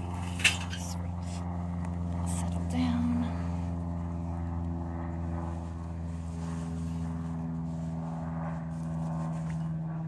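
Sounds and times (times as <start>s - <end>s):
engine drone: 0.0s - 10.0s.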